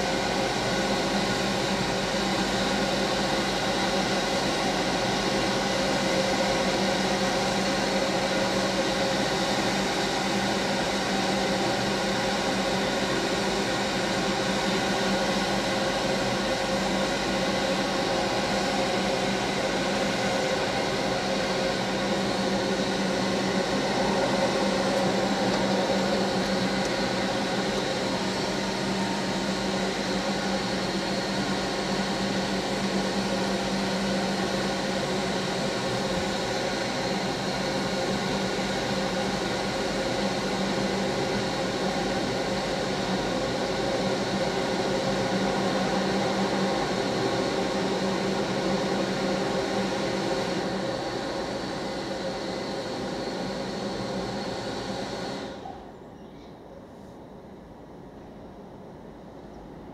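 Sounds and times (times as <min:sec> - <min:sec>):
machine hum with fan-like rush: 0:00.0 - 0:59.9.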